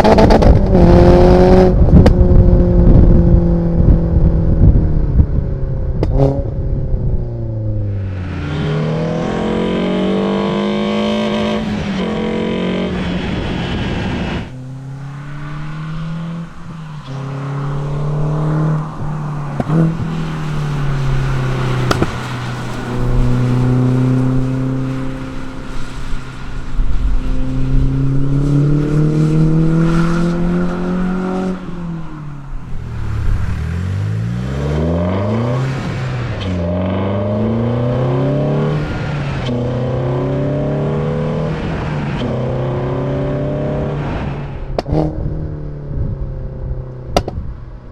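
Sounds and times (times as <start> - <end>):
car engine revving through gears: 0.0 - 4.7, 5.9 - 47.5.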